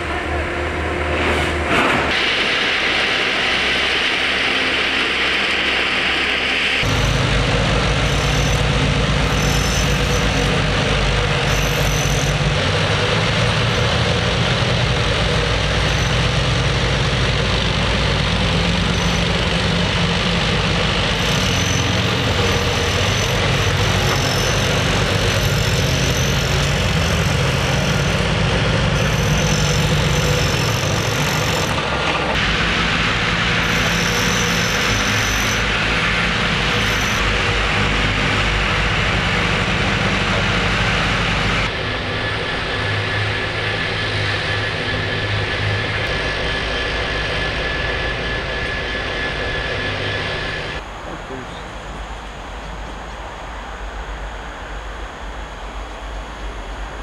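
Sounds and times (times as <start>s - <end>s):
heavy diesel machinery drone: 0.0s - 57.0s
high-pitched whine: 0.0s - 57.0s.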